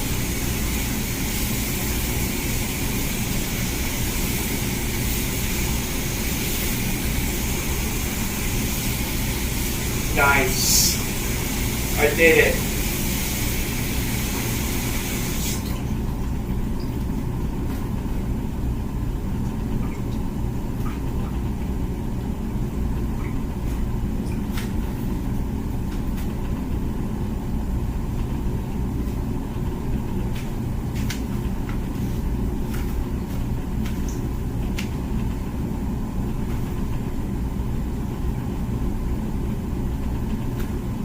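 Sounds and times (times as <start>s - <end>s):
dishwasher motor humming: 0.0s - 41.0s.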